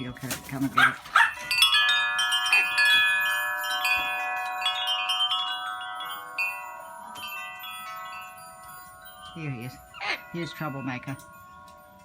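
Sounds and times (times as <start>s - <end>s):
metal wind chimes ringing: 0.0s - 12.0s.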